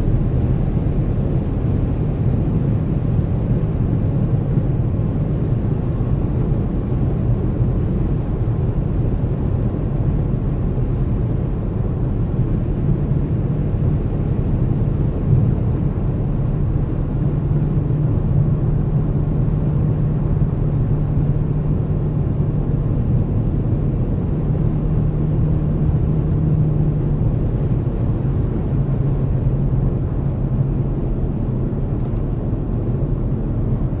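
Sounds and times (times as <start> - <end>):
car road and engine drone: 0.0 - 34.0.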